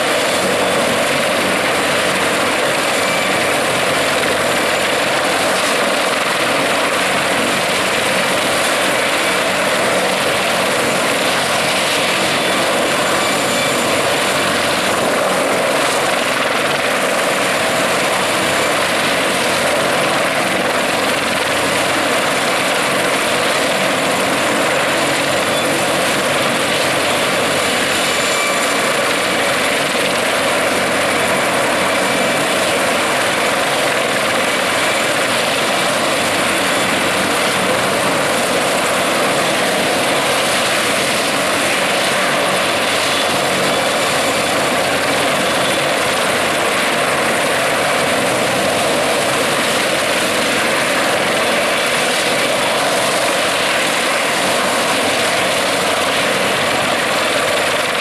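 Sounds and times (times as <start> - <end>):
helicopter rotors and engines: 0.0 - 58.0
high turbine whine: 0.0 - 58.0.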